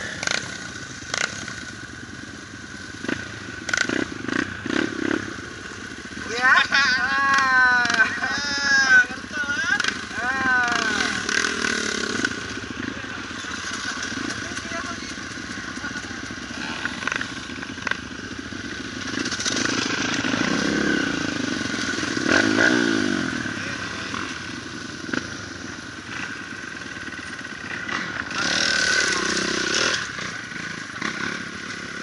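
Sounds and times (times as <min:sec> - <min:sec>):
dirt bike engine revving: 0:00.0 - 0:02.1, 0:02.8 - 0:32.0
dirt bike engines idling: 0:00.0 - 0:32.0
dirt bike riding past: 0:06.1 - 0:32.0.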